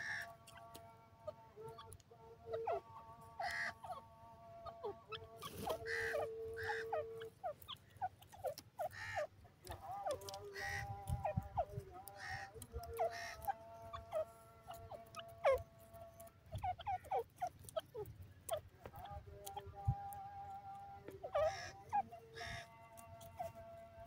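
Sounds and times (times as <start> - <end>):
francolin soft calls: 0.0 - 24.0.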